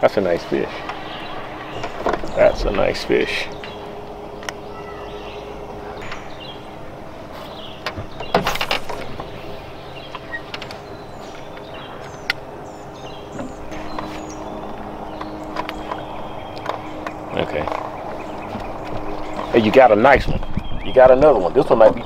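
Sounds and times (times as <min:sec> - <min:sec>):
birds chirping: 0:00.0 - 0:22.0
low hum: 0:00.0 - 0:22.0.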